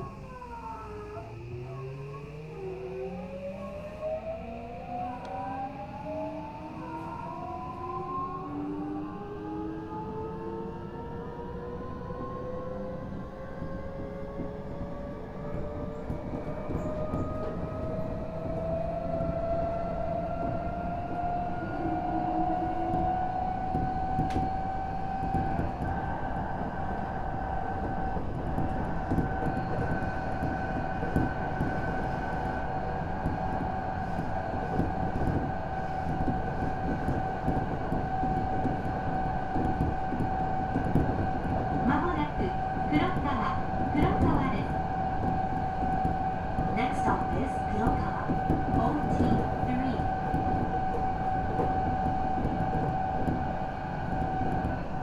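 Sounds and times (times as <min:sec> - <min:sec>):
electric train traction whine: 0:00.0 - 0:55.0
wheels rumbling on rail: 0:06.4 - 0:55.0.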